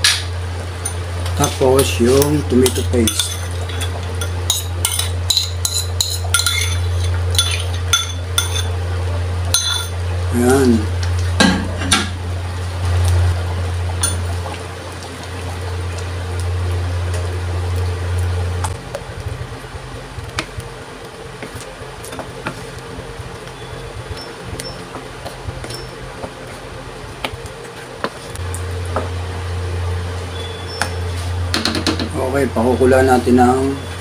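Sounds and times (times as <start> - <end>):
steady low hum: 0.0 - 34.0
stew simmering in a pan: 0.2 - 34.0.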